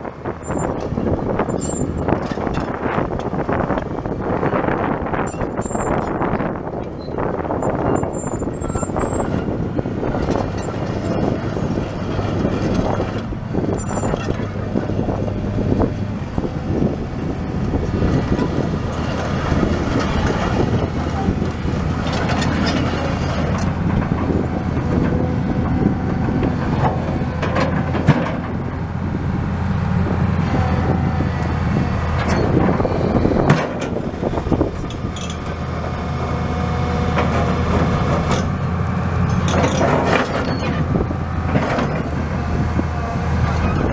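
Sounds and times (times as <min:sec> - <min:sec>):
diesel excavator engine running: 0:00.0 - 0:43.9.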